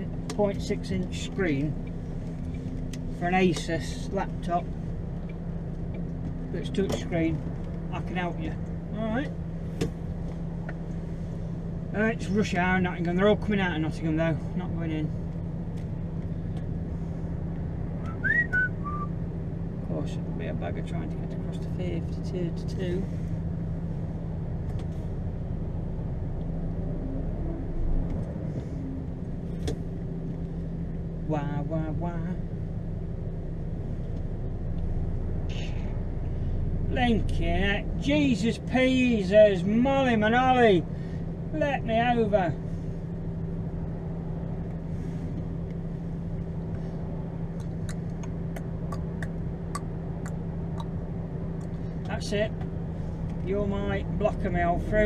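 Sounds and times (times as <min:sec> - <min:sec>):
lorry diesel engine droning: 0:00.0 - 0:55.0.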